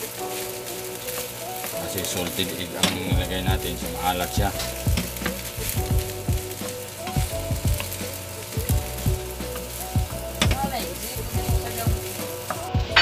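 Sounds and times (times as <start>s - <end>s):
rice sizzling in a skillet: 0.0s - 13.0s.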